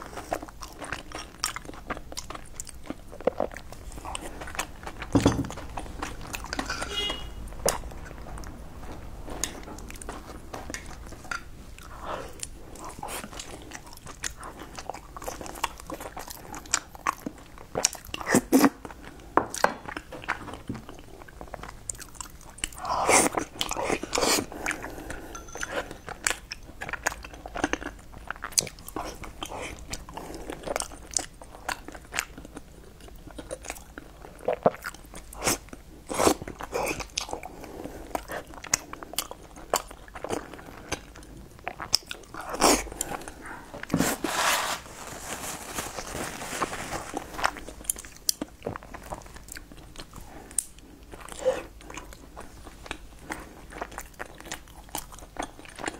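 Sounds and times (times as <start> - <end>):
person chewing and smacking: 0.0 - 44.0, 47.0 - 55.9.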